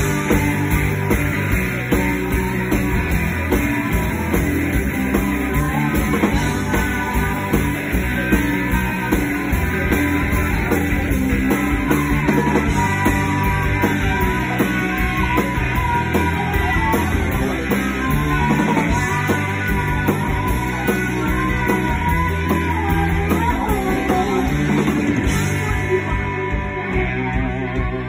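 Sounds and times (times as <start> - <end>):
live rock band playing: 0.0 - 28.0
steady drum beat: 0.0 - 28.0.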